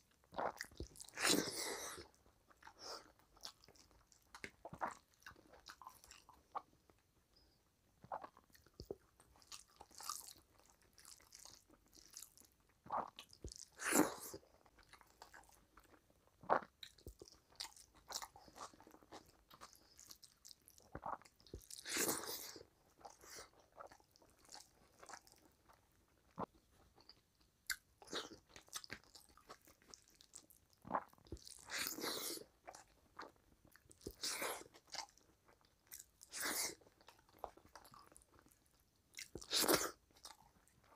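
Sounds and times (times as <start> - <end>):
person chewing food: 0.2 - 40.9.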